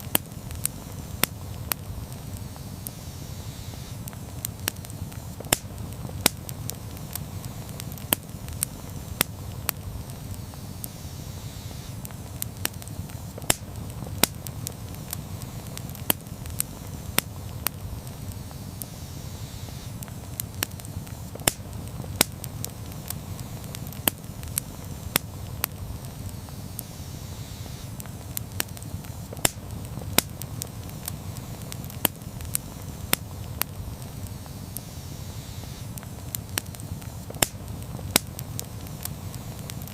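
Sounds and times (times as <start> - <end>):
campfire flames rumbling: 0.0 - 39.9
fire crackling and popping: 0.0 - 39.9.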